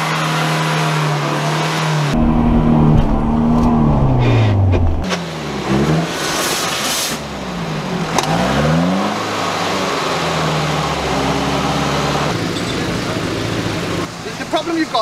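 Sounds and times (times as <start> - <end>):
car engine revving: 0.0 - 14.1.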